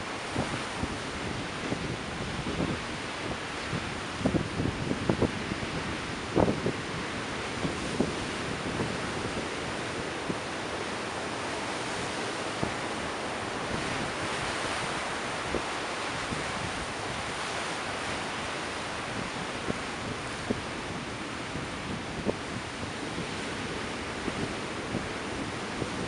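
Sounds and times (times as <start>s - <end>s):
waves breaking: 0.0s - 26.0s
wind buffeting microphone: 0.0s - 26.0s.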